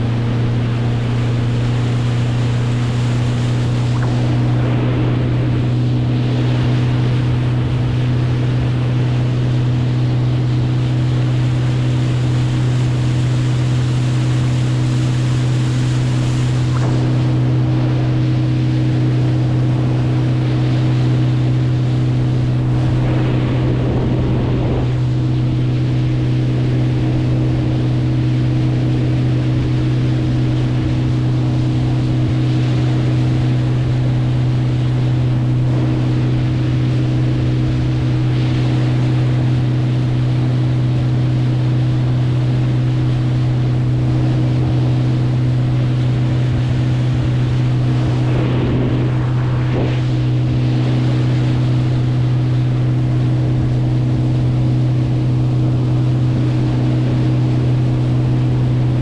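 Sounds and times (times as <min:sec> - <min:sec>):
boat engine running: 0:00.0 - 0:59.0
water rushing: 0:00.0 - 0:59.0
water splashing: 0:00.0 - 0:59.0
wind noise: 0:00.0 - 0:59.0.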